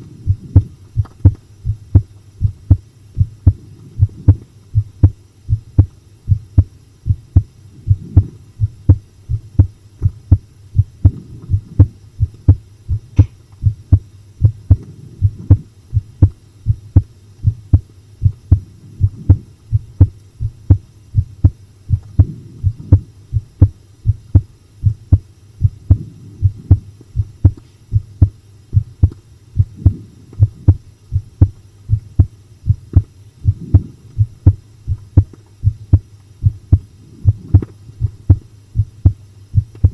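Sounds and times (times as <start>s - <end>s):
heartbeat pounding: 0.0s - 39.9s.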